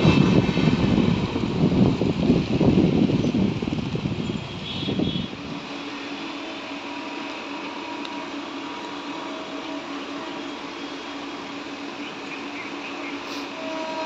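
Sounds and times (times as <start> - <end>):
loud train rumble: 0.0 - 14.0
train mechanical whirring hum: 0.0 - 14.0.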